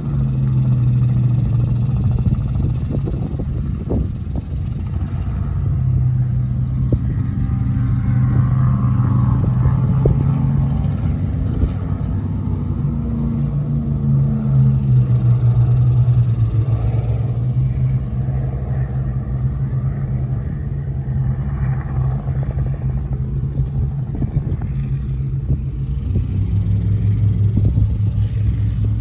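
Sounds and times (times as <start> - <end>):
deep engine rumble: 0.0 - 29.0.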